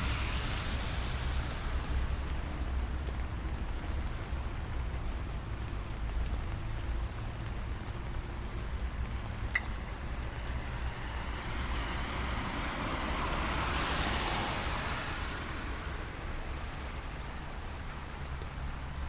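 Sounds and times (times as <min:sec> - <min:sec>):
low rumble of city traffic: 0:00.0 - 0:19.0
tyres hissing on wet road: 0:00.0 - 0:19.0.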